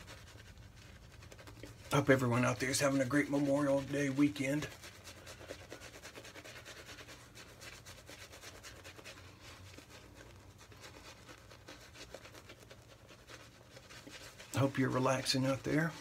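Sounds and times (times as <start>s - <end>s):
shaving brush scrubbing strokes: 0.0s - 16.0s.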